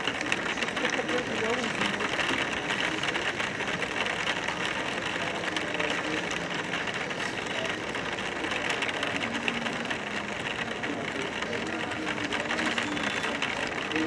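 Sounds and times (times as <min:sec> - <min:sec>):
rain pattering on a window: 0:00.0 - 0:14.0.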